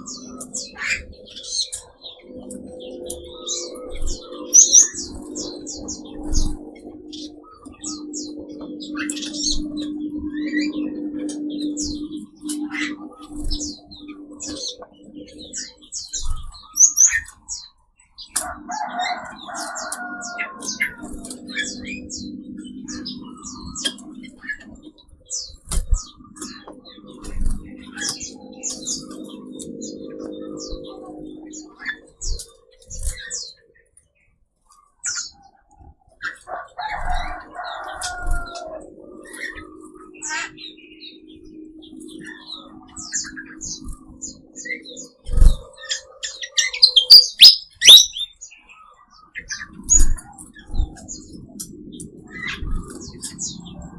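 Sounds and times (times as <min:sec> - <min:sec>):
low steady drone: 0:00.0 - 0:53.9
songbirds chirping: 0:00.0 - 0:53.9.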